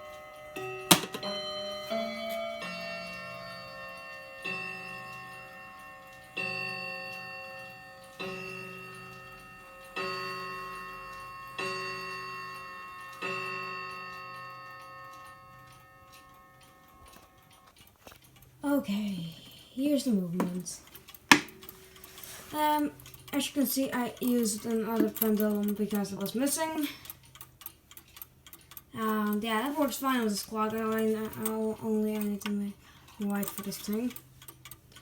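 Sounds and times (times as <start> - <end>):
clock striking chime rods: 0.0 - 17.8, 19.9 - 26.9, 29.0 - 34.2
clock click: 0.5 - 2.5, 4.4 - 18.6, 19.4 - 35.0.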